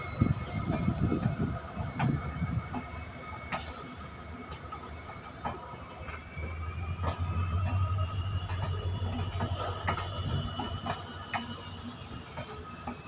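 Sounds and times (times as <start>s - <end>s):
train wheels clicking over rail joints: 0.0s - 13.0s.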